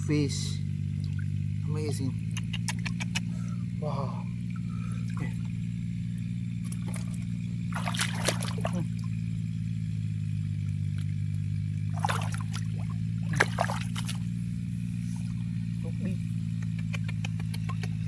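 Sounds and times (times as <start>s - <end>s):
muddy water splashing: 0.0s - 18.0s
steady low hum: 0.0s - 18.0s.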